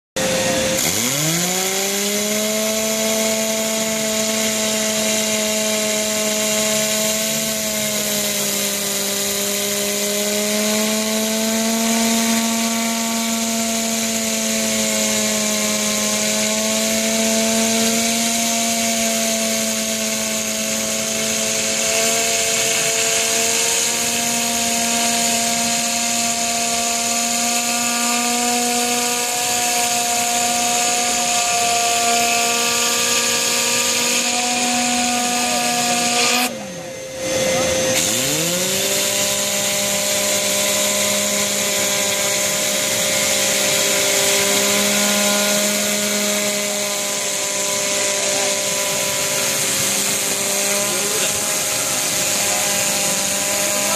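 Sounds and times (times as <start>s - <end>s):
vacuum motor whining: 0.2s - 53.9s.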